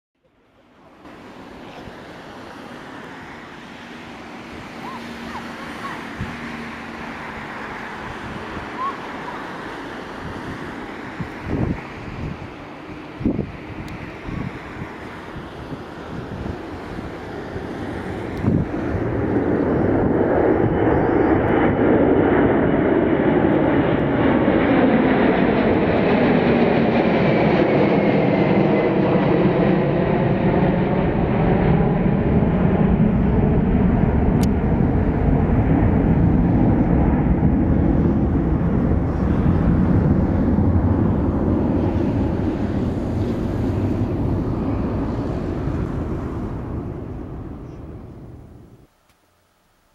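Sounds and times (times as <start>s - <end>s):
jet airliner passing overhead: 0.3s - 48.9s.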